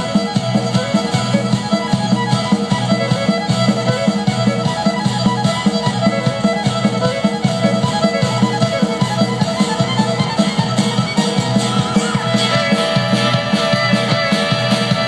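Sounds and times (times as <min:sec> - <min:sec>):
fiddle-led dance music: 0:00.0 - 0:15.0.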